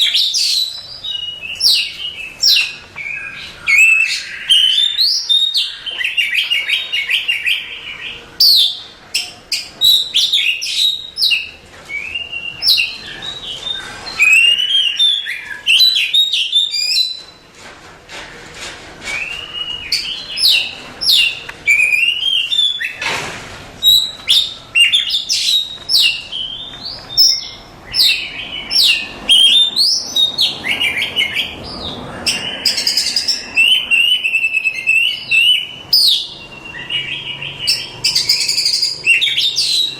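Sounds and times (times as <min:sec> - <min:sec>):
bird singing whistles and trills: 0:00.0 - 0:17.4, 0:19.1 - 0:23.0, 0:23.8 - 0:39.9.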